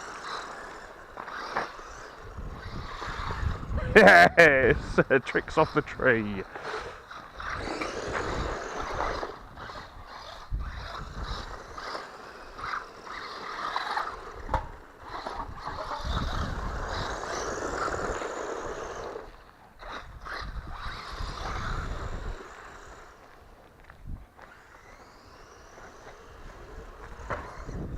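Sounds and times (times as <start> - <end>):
rc car driving over rough ground: 0.0 - 27.9.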